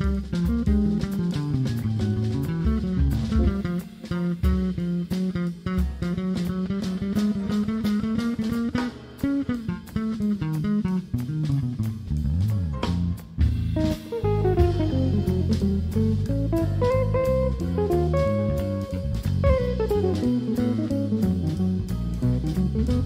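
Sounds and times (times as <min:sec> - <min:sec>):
drum kit: 0:00.0 - 0:23.0
electric bass line: 0:00.0 - 0:23.0
higher melodic notes: 0:00.0 - 0:23.0.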